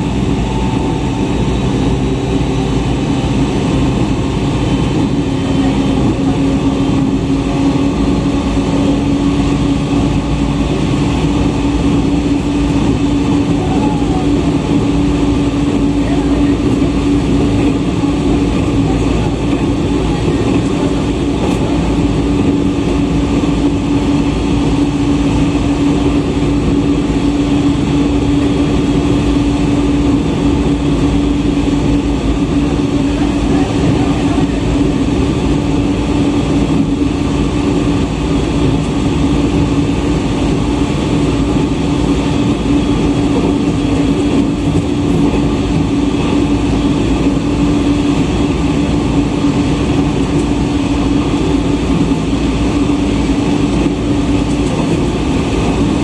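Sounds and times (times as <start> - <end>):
train running noise from inside: 0.0 - 56.0.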